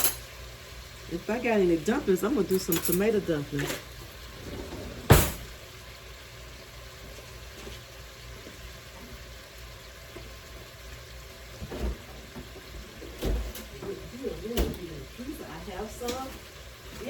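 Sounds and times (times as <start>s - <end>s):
meatballs sizzling in a pot: 0.0s - 4.5s, 5.1s - 17.0s.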